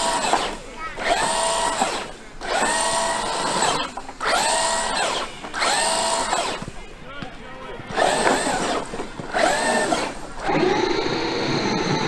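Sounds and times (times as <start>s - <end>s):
electric motor whining: 0.0s - 6.8s, 7.9s - 12.0s.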